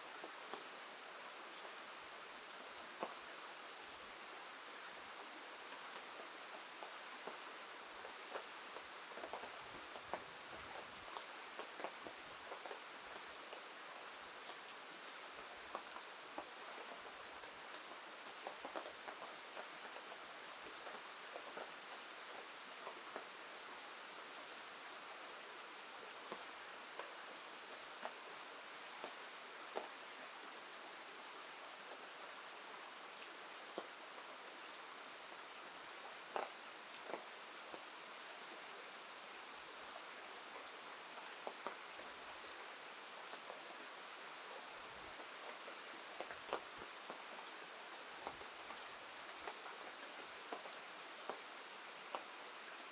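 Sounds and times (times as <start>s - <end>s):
raindrops ticking close by: 0.0s - 52.9s
steady rain falling: 0.0s - 52.9s.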